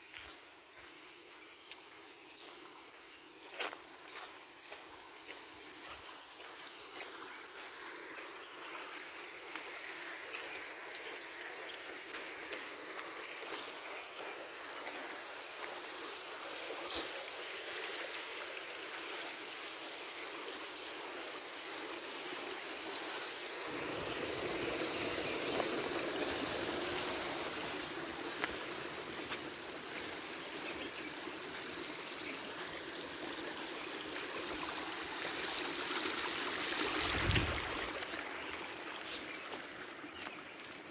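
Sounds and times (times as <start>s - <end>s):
high insect calls: 0.0s - 40.9s
stream water trickling: 0.0s - 40.9s.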